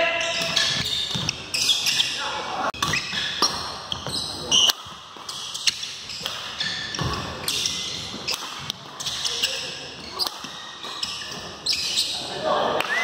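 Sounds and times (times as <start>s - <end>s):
rackets hitting shuttlecock: 0.2s - 2.1s, 2.8s - 12.0s.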